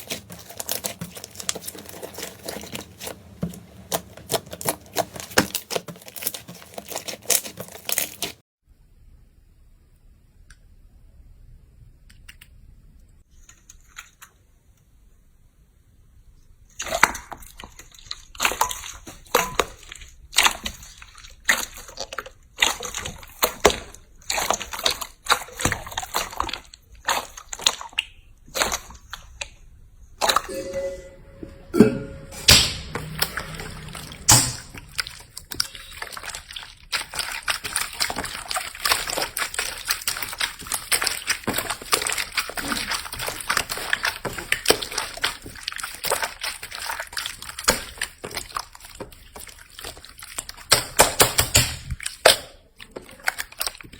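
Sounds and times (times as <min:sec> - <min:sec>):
slime squelching: 0:00.0 - 0:08.4, 0:16.8 - 0:29.6, 0:31.8 - 0:53.9.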